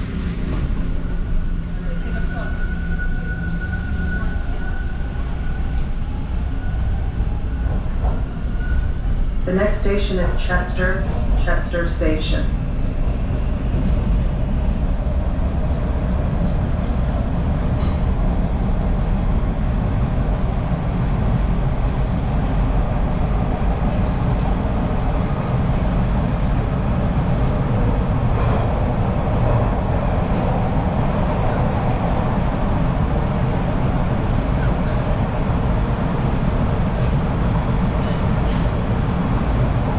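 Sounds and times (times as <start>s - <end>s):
subway train rumble: 0.0s - 39.9s.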